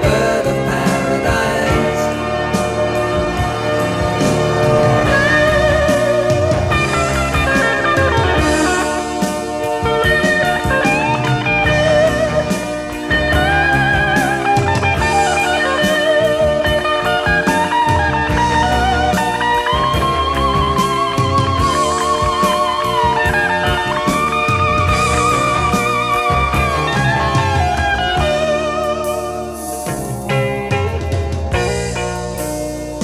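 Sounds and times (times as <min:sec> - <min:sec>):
bass and drums: 0:00.0 - 0:33.0
electric guitar solo: 0:02.1 - 0:32.4.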